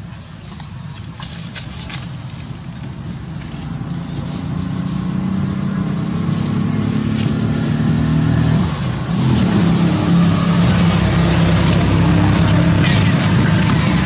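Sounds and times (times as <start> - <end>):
motor engine droning: 1.9 - 14.0.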